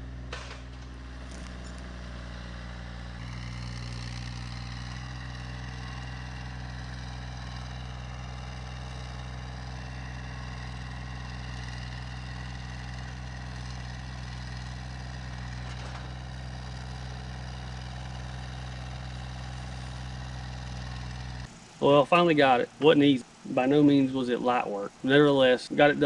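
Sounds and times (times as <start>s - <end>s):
tractor engine running steadily: 0.0s - 26.0s.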